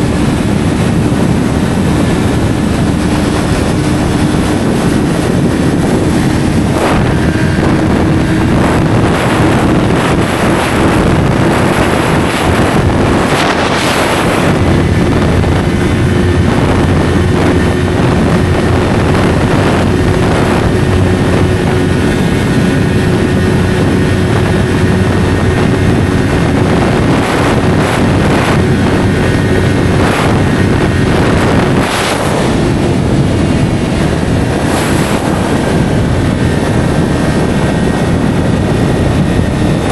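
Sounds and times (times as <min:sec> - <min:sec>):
motorcycle engine while riding: 0:00.0 - 0:39.9
wind noise on microphone: 0:00.0 - 0:39.9.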